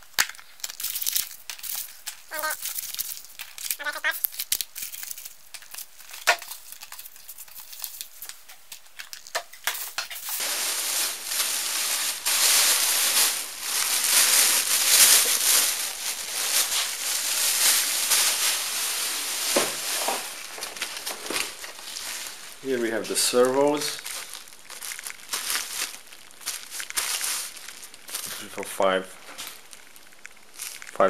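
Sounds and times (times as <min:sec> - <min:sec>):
plastic bag crinkling: 0:00.0 - 0:31.0.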